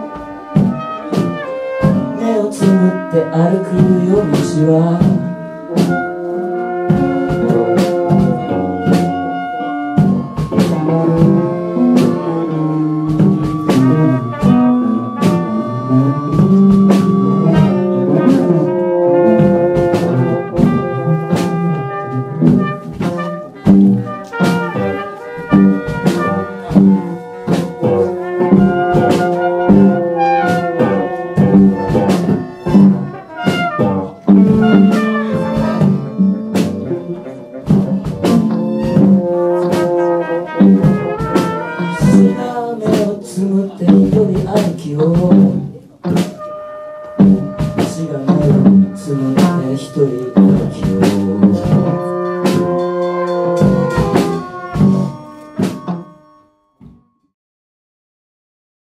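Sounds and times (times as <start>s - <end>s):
drum kit: 0.0s - 56.2s
low brass horn: 0.0s - 57.1s
trumpets: 0.0s - 57.2s
electric guitar: 4.8s - 56.2s.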